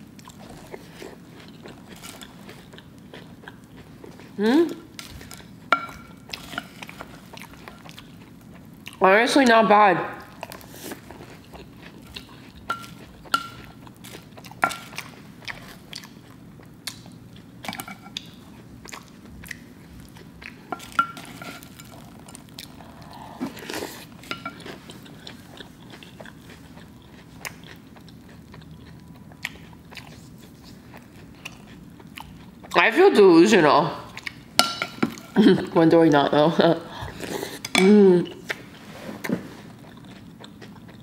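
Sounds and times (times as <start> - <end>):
chewing crunchy cereal: 0.0 - 9.0, 10.2 - 32.8, 39.4 - 41.0.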